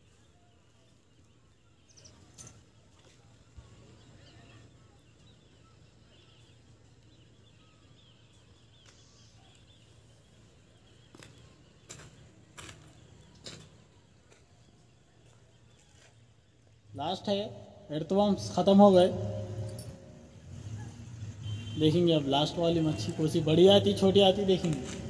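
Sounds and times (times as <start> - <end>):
distant birds chirping: 0.0 - 25.0.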